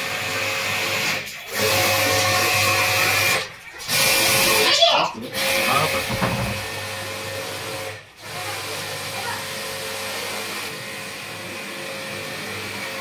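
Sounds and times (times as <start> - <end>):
pressure washer motor humming: 0.0 - 13.0.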